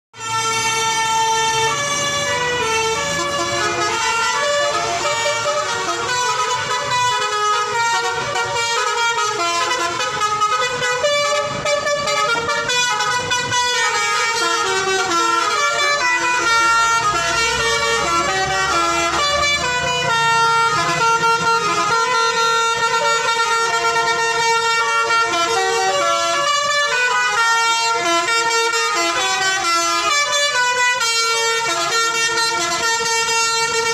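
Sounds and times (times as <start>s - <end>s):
multi-tone bus air horns: 0.2s - 33.9s.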